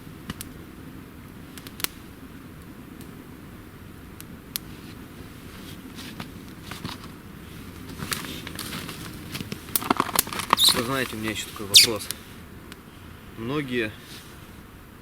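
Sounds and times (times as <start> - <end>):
campfire crackling and popping: 0.0 - 13.0
low steady fire hiss: 0.0 - 15.0.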